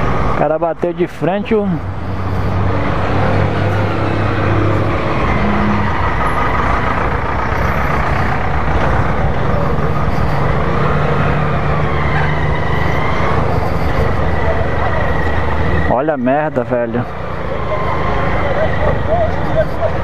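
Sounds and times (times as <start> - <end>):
truck engine: 0.0 - 20.0.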